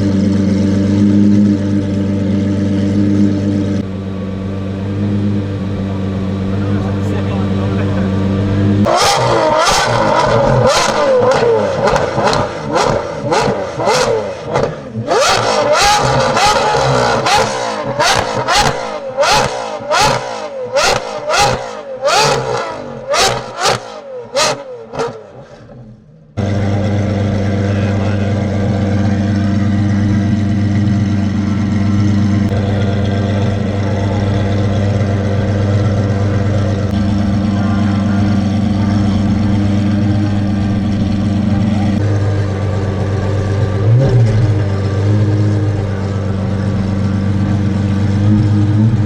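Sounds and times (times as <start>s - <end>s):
car engine idling: 0.0s - 22.1s, 26.3s - 49.0s
exhaust cracks: 0.0s - 25.8s, 26.4s - 49.0s
sports car engine revving: 0.0s - 49.0s.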